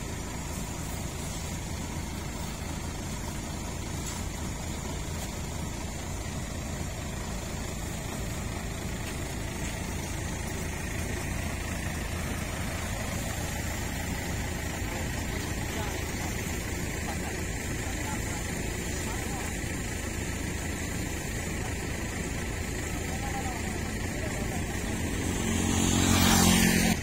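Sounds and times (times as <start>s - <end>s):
heavy engine idling: 0.0s - 27.0s.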